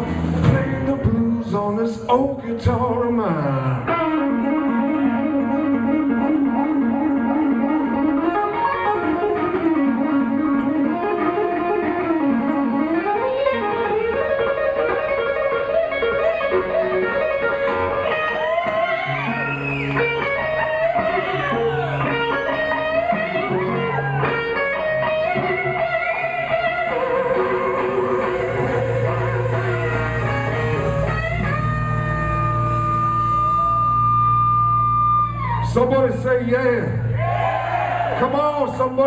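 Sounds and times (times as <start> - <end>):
bass and drums: 0.0 - 10.6, 17.3 - 39.0
electric guitar solo: 0.0 - 39.0.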